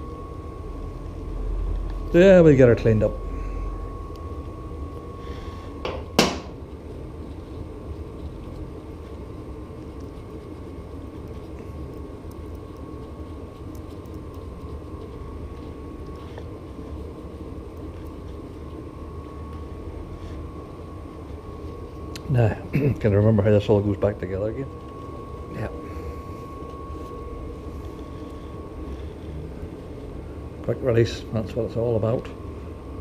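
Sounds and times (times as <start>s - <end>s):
faint thin whine: 0.0s - 33.0s
steady low hum: 0.0s - 33.0s.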